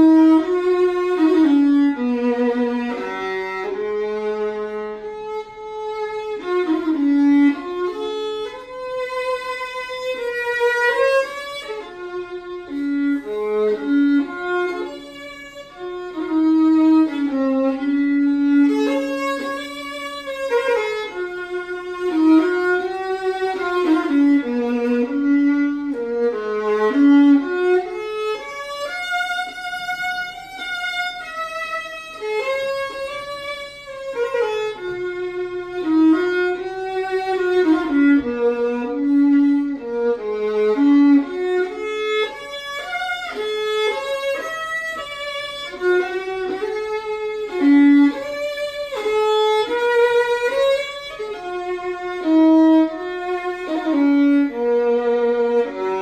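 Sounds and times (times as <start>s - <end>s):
solo violin melody: 0.0s - 56.0s.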